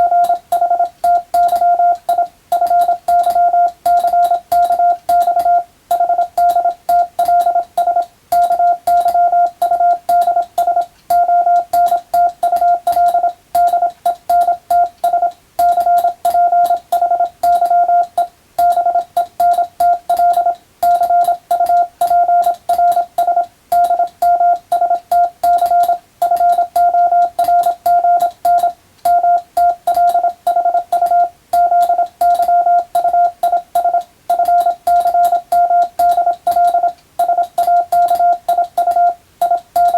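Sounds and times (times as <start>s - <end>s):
faint keying clicks: 0.0s - 39.9s
morse code tone beeping: 0.0s - 39.9s.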